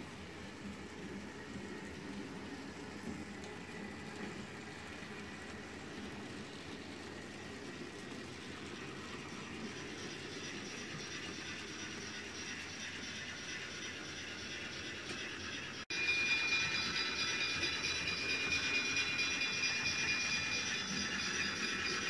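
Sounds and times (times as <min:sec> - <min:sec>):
model train rolling rumble: 0:00.0 - 0:22.0.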